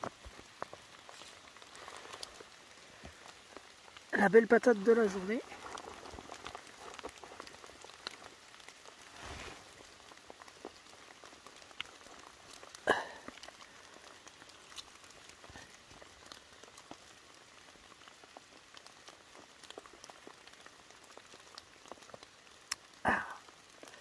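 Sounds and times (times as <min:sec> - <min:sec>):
rain on forest floor: 0:00.0 - 0:24.0.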